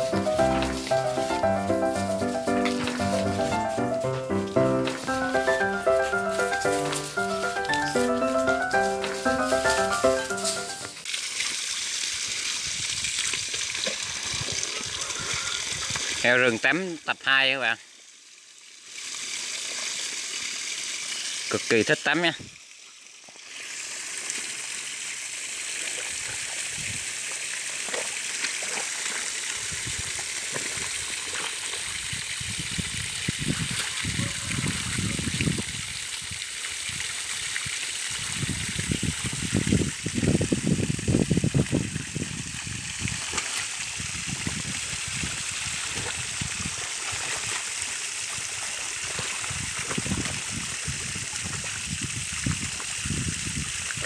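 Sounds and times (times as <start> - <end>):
hose water spraying and splashing: 0.0 - 54.0.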